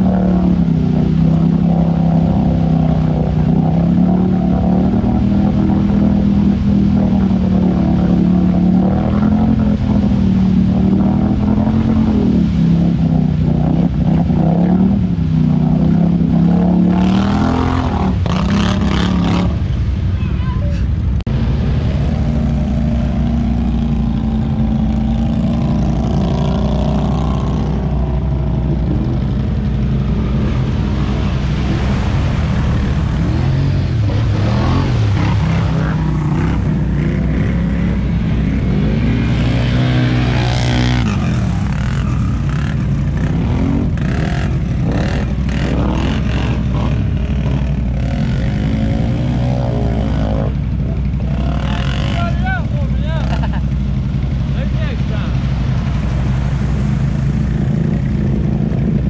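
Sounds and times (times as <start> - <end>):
quads revving through water: 0.0 - 59.0.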